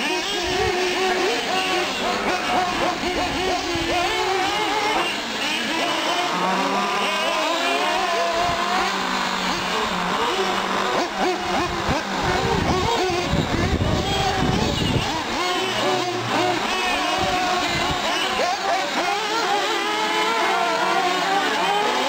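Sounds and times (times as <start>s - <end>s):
rc truck engines revving: 0.0s - 22.0s.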